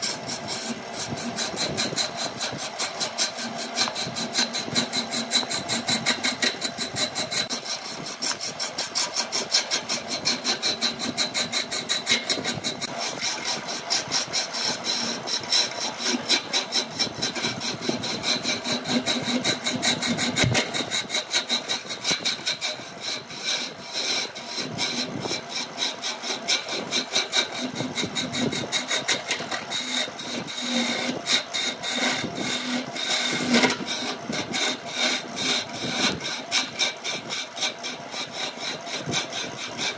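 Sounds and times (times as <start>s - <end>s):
gouge scraping spinning wood: 0.0s - 39.9s
lathe motor running: 0.0s - 39.9s.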